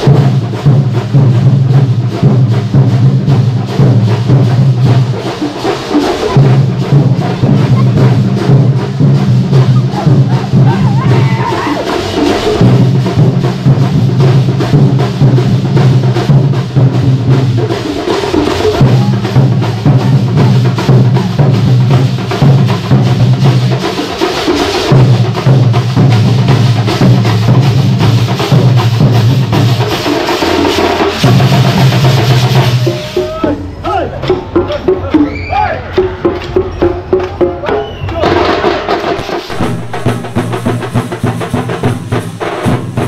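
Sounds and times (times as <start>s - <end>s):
drum troupe playing fast rhythm: 0.0s - 43.0s.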